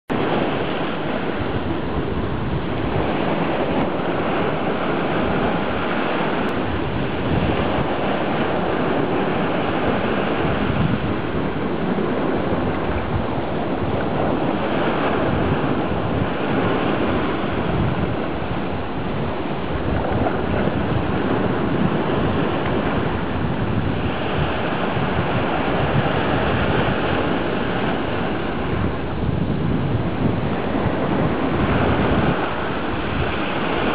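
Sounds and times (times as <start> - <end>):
ocean surf breaking: 0.1 - 33.9
wind buffeting microphone: 0.1 - 33.9.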